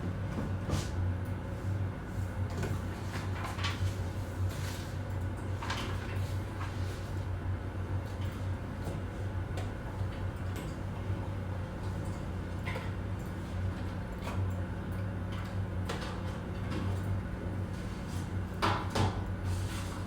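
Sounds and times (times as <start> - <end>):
low office hum: 0.0 - 20.0.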